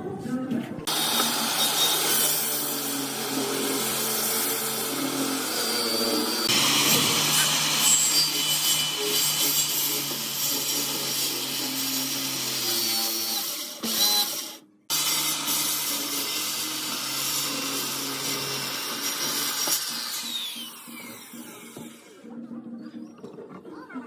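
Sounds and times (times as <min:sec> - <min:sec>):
power tool sanding wood: 0:00.9 - 0:22.1.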